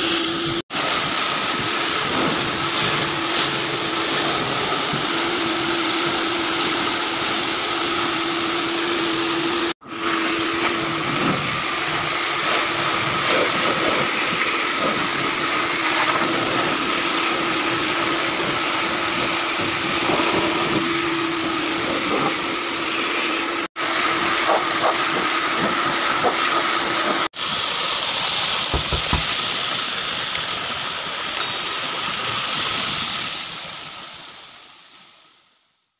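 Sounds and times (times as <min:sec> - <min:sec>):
pressure washer jet spraying: 0:00.0 - 0:33.8.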